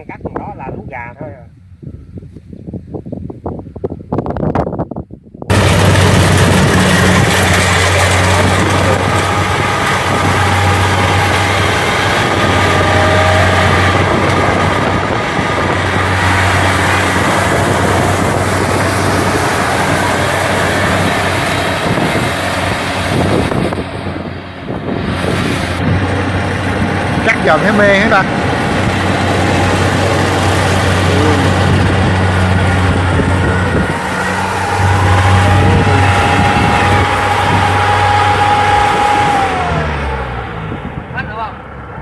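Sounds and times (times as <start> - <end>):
harvester rushing noise: 5.5 - 41.1
combine harvester engine hum: 5.5 - 42.0.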